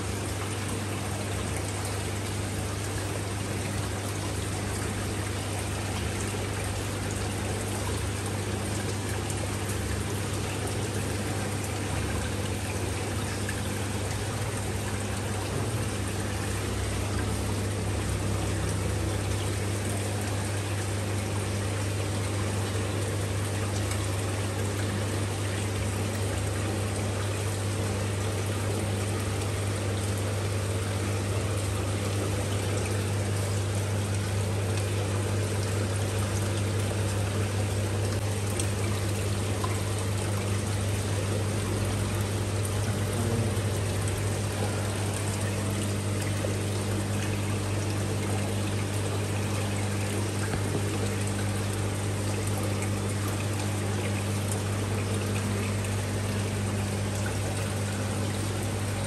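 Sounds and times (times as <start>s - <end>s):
pump humming: 0.0s - 59.0s
water trickling and splashing: 0.0s - 59.0s.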